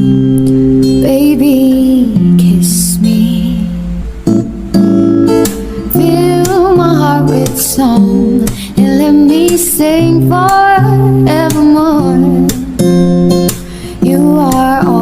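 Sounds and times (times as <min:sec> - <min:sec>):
woman singing: 0:00.0 - 0:04.0, 0:05.7 - 0:15.0
strummed acoustic guitar: 0:00.0 - 0:15.0.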